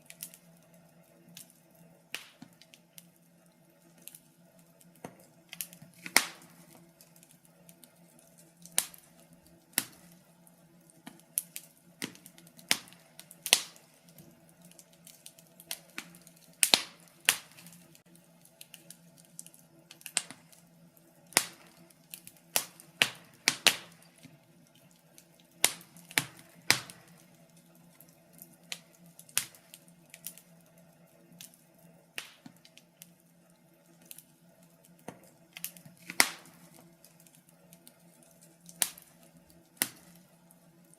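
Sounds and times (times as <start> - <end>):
faint steady hum: 0.0 - 40.9
wood fire crackling and popping: 0.0 - 40.9.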